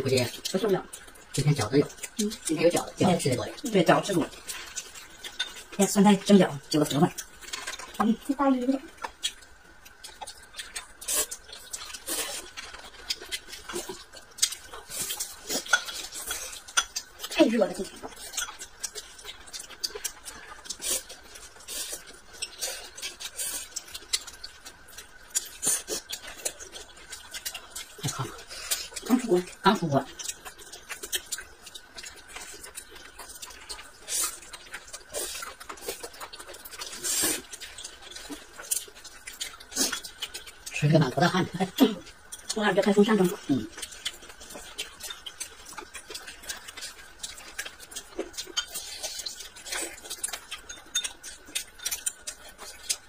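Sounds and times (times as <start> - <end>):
wet eating clicks and smacks: 0.0 - 53.0.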